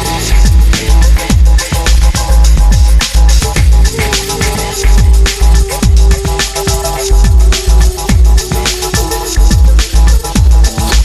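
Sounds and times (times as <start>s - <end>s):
deep kick drums: 0.0s - 8.7s, 9.4s - 11.0s
heavy sub-bass: 0.0s - 11.0s
ticking hi-hats: 0.0s - 11.0s.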